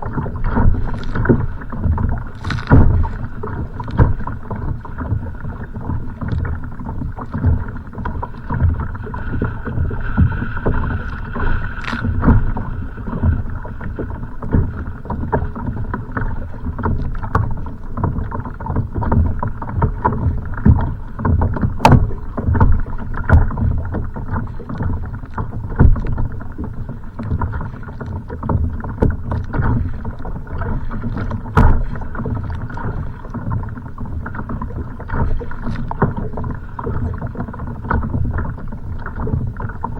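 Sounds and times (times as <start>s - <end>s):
waves slapping against kayak hull: 0.0s - 39.9s
wind rumbling on microphone: 0.0s - 39.9s.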